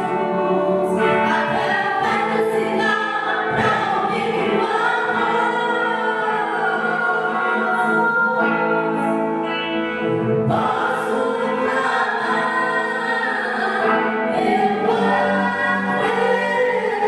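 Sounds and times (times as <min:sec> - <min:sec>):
voices singing gospel song: 0:00.0 - 0:17.0.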